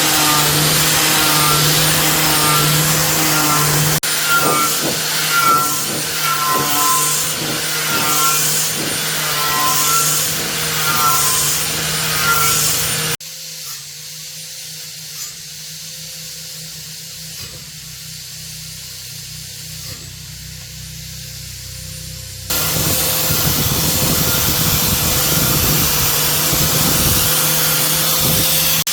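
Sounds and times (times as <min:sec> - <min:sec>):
power tool strokes on metal: 0:00.0 - 0:28.9.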